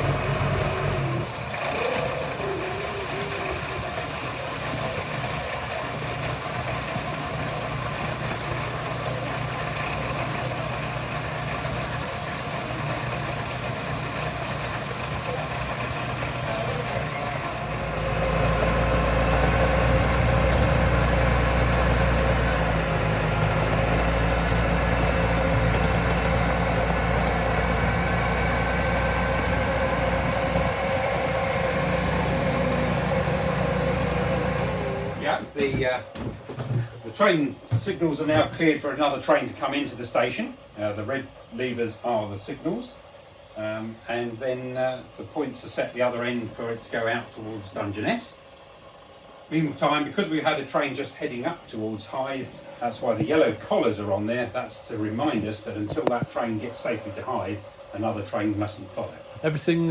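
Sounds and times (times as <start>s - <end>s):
locomotive running: 0.0s - 59.9s.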